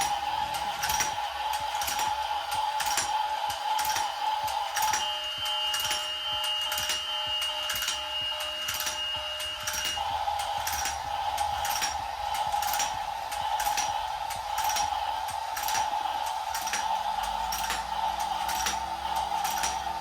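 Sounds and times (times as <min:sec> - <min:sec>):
dominoes clicking: 0:00.0 - 0:05.1, 0:05.7 - 0:07.0, 0:07.6 - 0:20.0
toy train motor whirring: 0:00.0 - 0:20.0.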